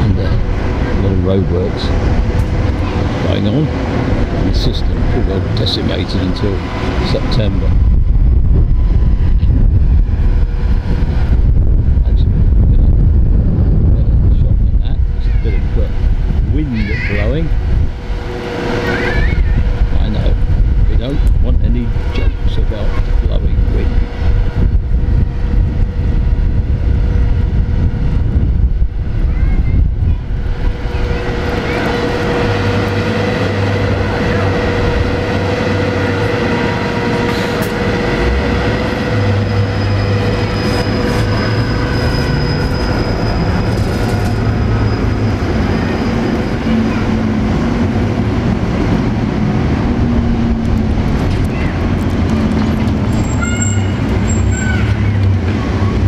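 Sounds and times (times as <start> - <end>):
street traffic rumble: 0.0 - 56.0
trolleybus electrical whine: 0.0 - 56.0.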